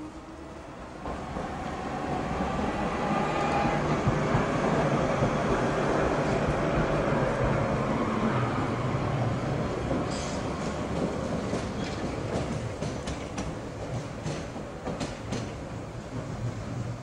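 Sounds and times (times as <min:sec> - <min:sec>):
tram wheels rumbling: 0:00.0 - 0:17.0.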